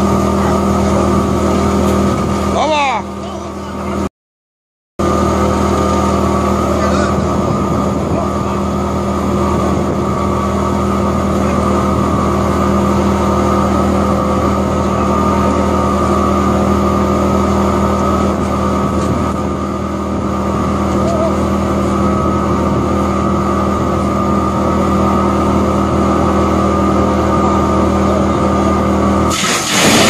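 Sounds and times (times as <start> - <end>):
wood chipper humming and whining: 0.0 - 4.1, 5.0 - 30.0.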